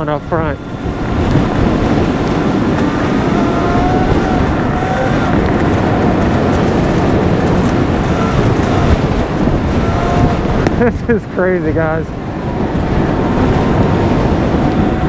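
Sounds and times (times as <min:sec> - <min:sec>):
electric motor whine: 0:00.0 - 0:15.0
wind buffeting microphone: 0:00.0 - 0:15.0.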